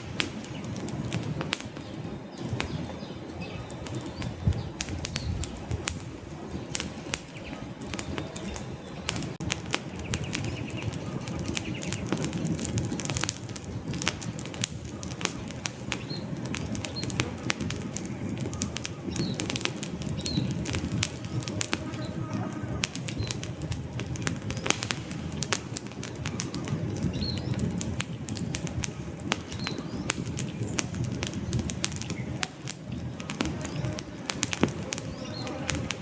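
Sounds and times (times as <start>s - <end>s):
logs crackling and popping: 0.0s - 36.0s
wood fire flames rushing: 0.0s - 36.0s.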